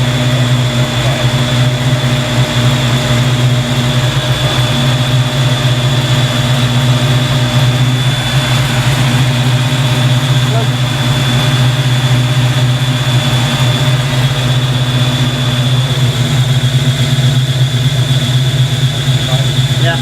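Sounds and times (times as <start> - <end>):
car engine idling: 0.0 - 20.0
radiator fans humming: 0.0 - 20.0.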